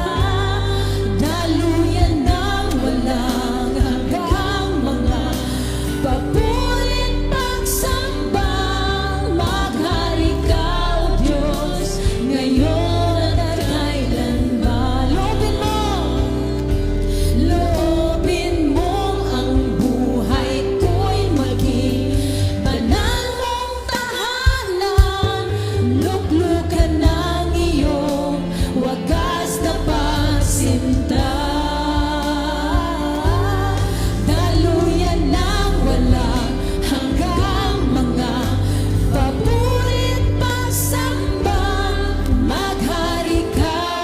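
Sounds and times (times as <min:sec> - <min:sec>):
instrumental backing with bass: 0:00.0 - 0:44.0
voices singing worship song: 0:00.0 - 0:44.0.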